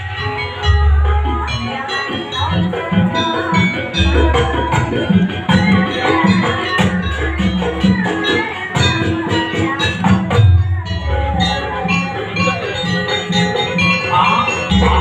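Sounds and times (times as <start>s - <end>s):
drums fast beat: 0.0s - 15.0s
pitched metal notes: 0.0s - 15.0s.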